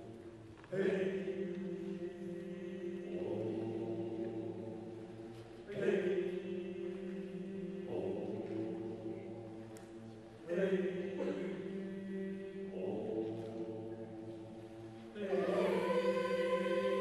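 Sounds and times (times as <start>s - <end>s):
mixed choir singing: 0.0s - 17.0s.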